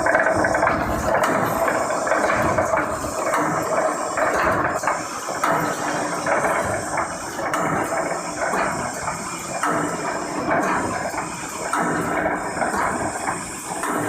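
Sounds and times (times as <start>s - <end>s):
welding machine running: 0.0s - 14.0s.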